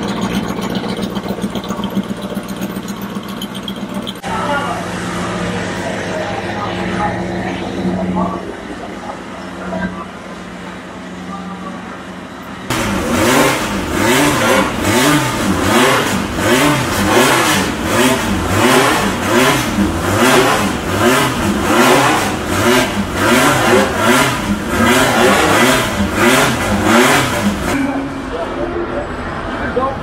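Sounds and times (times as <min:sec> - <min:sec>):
car engine revving: 0:00.0 - 0:29.8.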